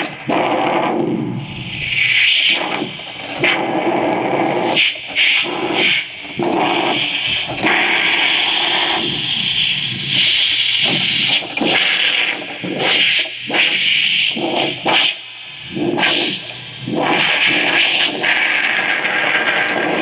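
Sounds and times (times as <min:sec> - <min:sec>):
harsh distorted electronic noise: 0:00.0 - 0:20.0.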